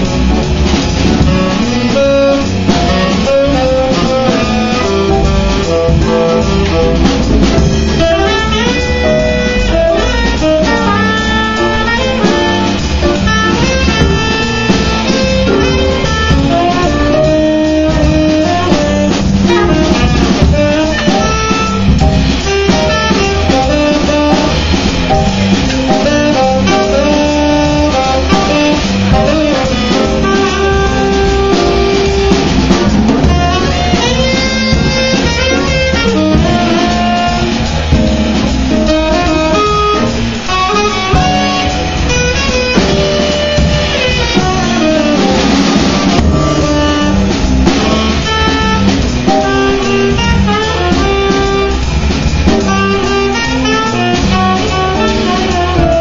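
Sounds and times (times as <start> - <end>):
drum kit with cymbals: 0.0 - 56.0
plucked double bass: 0.0 - 56.0
tenor saxophone melody: 1.0 - 56.0.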